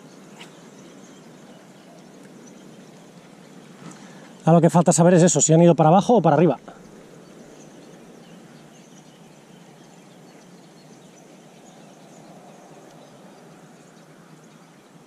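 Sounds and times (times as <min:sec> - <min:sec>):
faint bird chirps: 0:00.0 - 0:15.0
faint outdoor background noise: 0:00.0 - 0:15.0.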